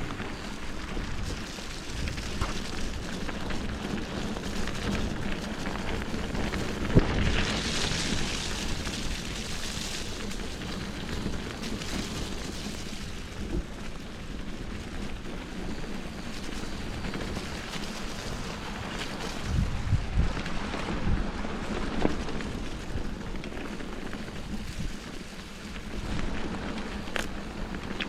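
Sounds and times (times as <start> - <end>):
bicycle tyres rumbling: 0.0 - 28.0
bike rattling: 0.0 - 28.0.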